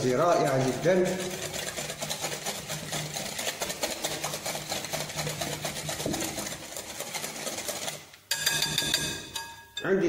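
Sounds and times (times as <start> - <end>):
whisk clicking against glass bowl: 0.0 - 9.9.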